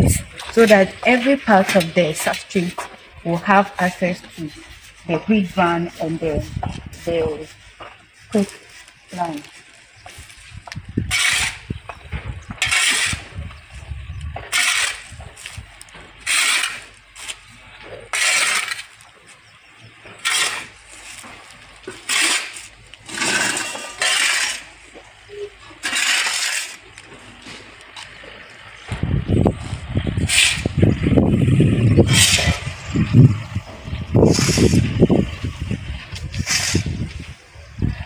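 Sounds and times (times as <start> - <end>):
metal spade scraping concrete: 0.0 - 19.3, 20.0 - 27.8, 29.4 - 37.4.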